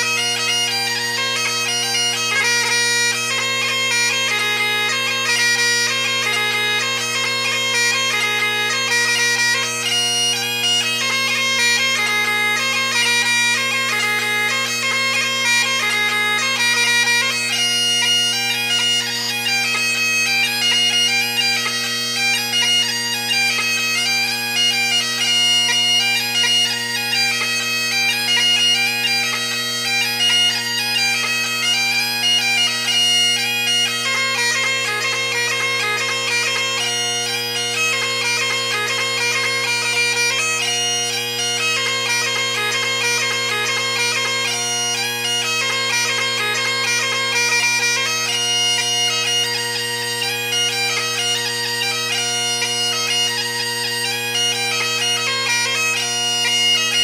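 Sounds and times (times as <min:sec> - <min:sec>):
bagpipe chanter melody: 0:00.0 - 0:57.0
bagpipe drones: 0:00.0 - 0:57.0.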